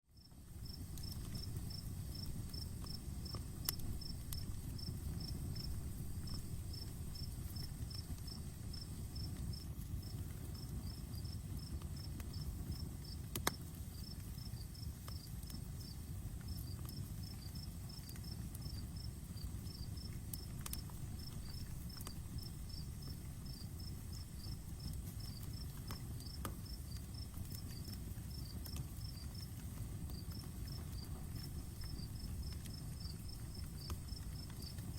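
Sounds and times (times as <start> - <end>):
campfire crackling: 0.1 - 34.9
cricket chirping: 0.2 - 13.2, 13.9 - 34.9.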